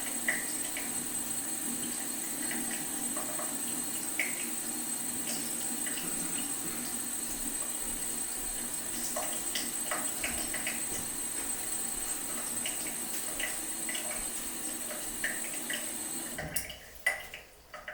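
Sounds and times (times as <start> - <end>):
faucet trickling: 0.0 - 17.9.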